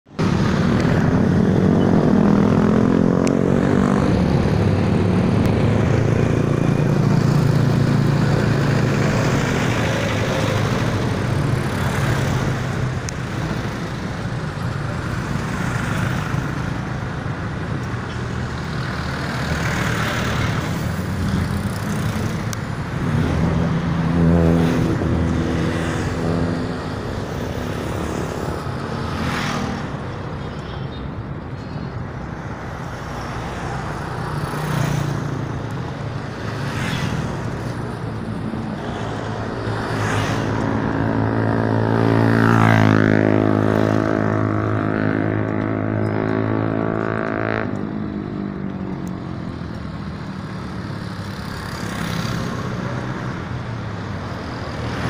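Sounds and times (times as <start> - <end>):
passing motor vehicle engines: 0.0 - 55.0.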